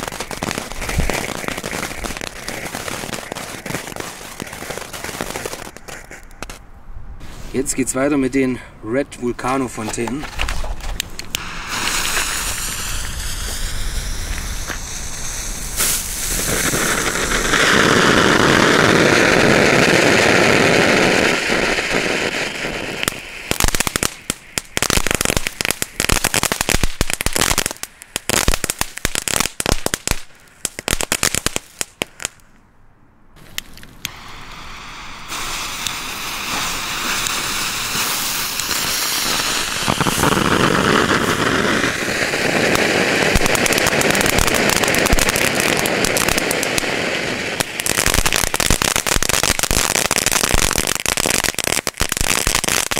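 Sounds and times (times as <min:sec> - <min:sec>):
firework fountain hissing: 0:00.0 - 0:06.6, 0:10.3 - 0:32.4, 0:33.4 - 0:52.9
rapid firework crackling: 0:00.0 - 0:06.6, 0:10.2 - 0:32.4, 0:33.4 - 0:52.9.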